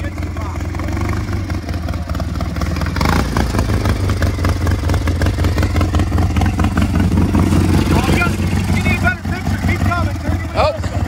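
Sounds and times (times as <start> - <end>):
lawn tractor engine clattering: 0.0 - 11.0.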